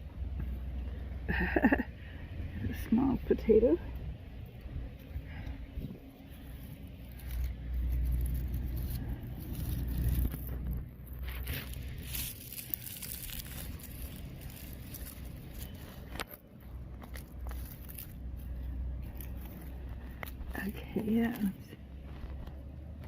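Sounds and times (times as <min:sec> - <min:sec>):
low rumble: 0:00.0 - 0:23.0
digging in soil: 0:00.2 - 0:23.0.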